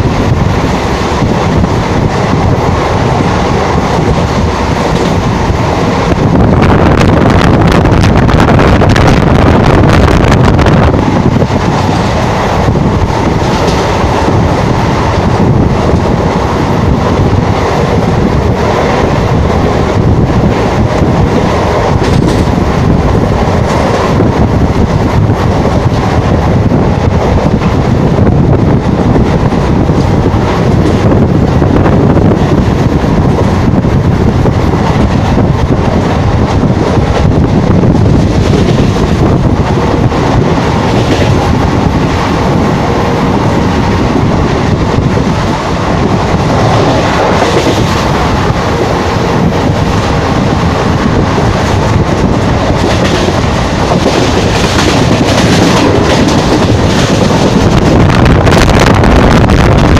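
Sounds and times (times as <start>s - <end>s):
rushing wind: 0.0s - 59.9s
train wheels rumbling on rails: 0.0s - 59.9s.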